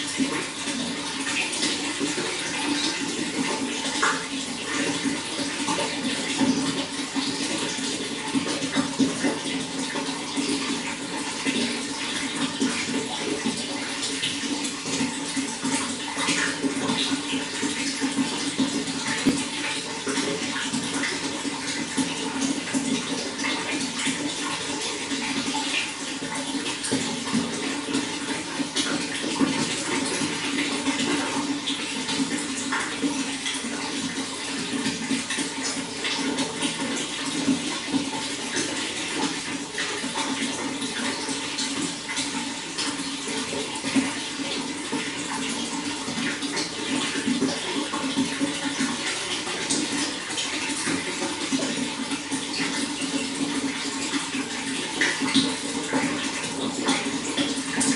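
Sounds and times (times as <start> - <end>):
running water splashing: 0.0 - 57.9.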